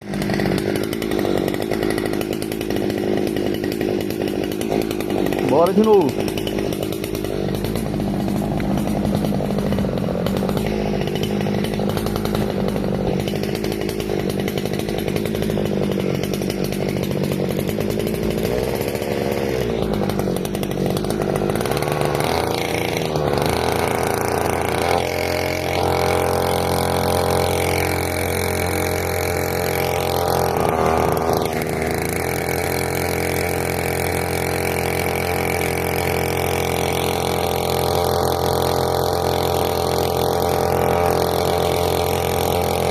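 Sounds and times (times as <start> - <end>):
small petrol engine running: 0.0 - 42.9.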